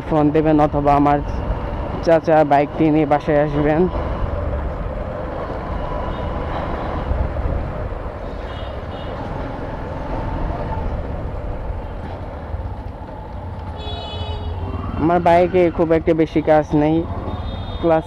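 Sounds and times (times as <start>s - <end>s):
motorcycle riding rumble: 0.0s - 18.0s.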